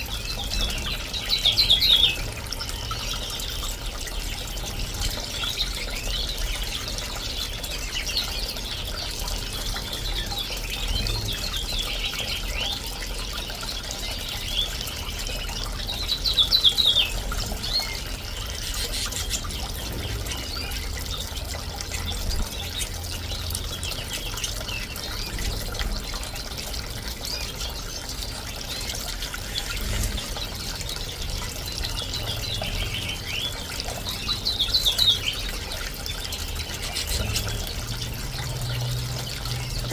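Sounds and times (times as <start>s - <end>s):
birds chirping and trilling: 0.0s - 39.9s
fountain trickling and splashing: 0.0s - 39.9s.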